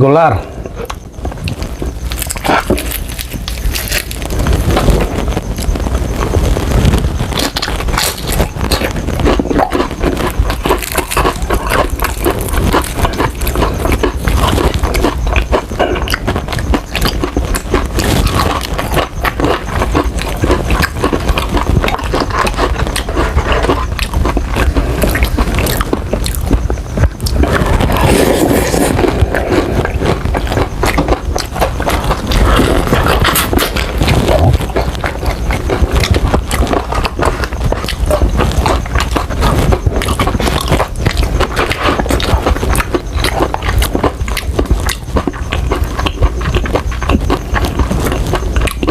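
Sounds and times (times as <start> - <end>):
crunching and wet chewing: 0.8 - 48.9.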